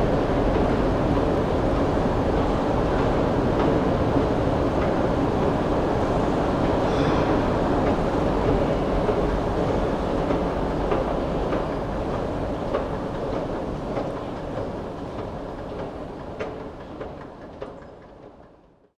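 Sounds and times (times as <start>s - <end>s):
escalator mechanical rumble and hum: 0.0s - 17.7s.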